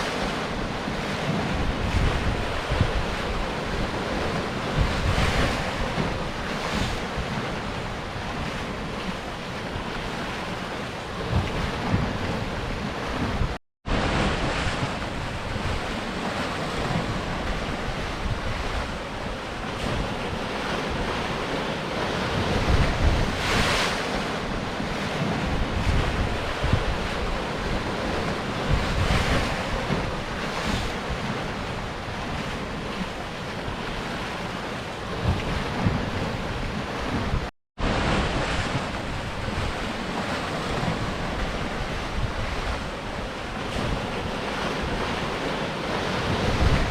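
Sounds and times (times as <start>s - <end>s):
surf washing against rocks: 0.0s - 46.9s.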